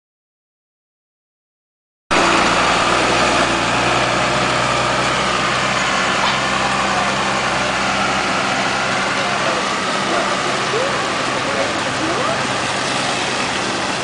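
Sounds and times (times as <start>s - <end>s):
floodwater rushing: 2.1s - 14.0s
rain: 2.1s - 14.0s
vehicle engine idling: 2.1s - 14.0s.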